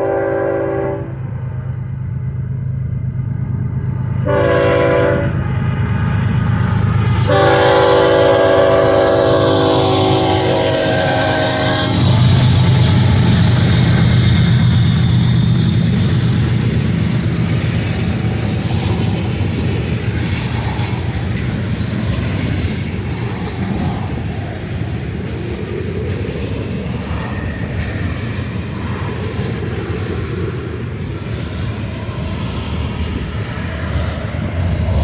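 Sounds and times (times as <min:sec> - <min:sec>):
freight train rumbling on rails: 0:00.0 - 0:35.0.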